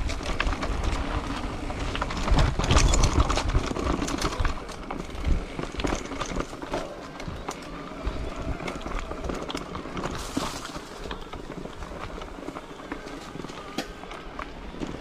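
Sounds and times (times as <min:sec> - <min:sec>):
wind rumble on microphone: 0:00.0 - 0:12.8
crunching on dirt trail: 0:00.0 - 0:15.0.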